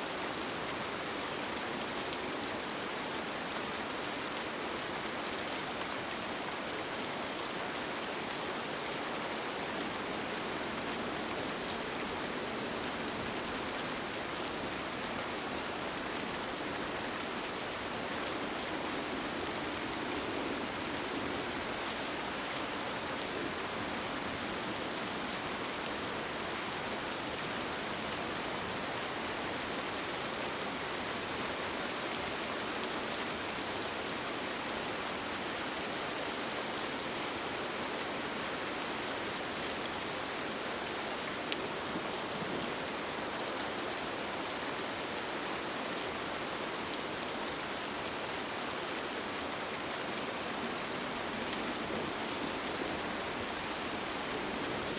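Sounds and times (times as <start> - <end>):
rain falling on tent: 0.0 - 54.9.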